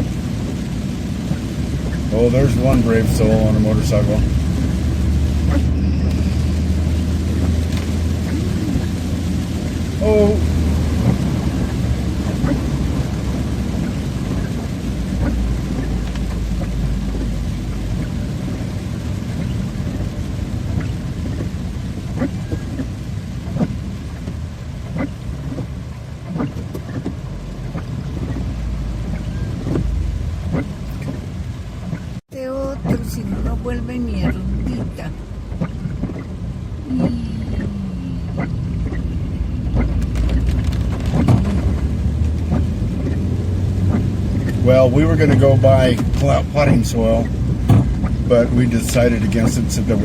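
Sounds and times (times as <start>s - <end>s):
heavy rain pouring: 0.0s - 50.0s
low rumble: 0.0s - 50.0s.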